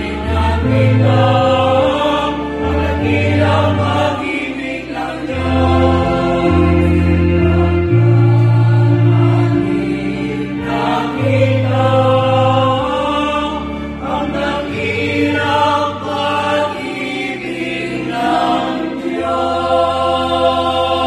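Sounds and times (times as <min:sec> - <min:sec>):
choir singing a hymn: 0:00.0 - 0:21.0
electric organ: 0:00.0 - 0:21.0.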